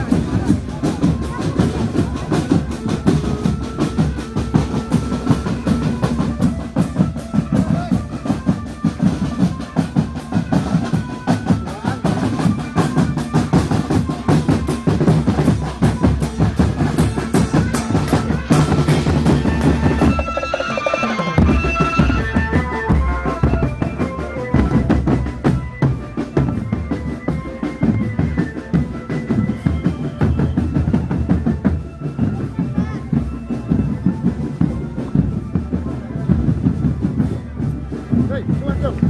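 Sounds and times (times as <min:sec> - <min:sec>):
held melody notes: 0:00.0 - 0:39.0.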